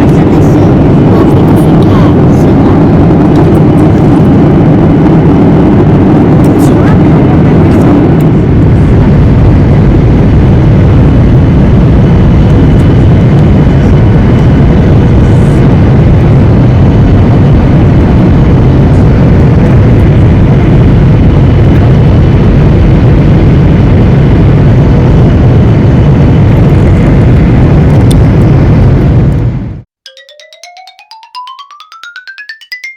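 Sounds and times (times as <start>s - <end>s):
airliner cabin engine roar: 0.0s - 29.8s.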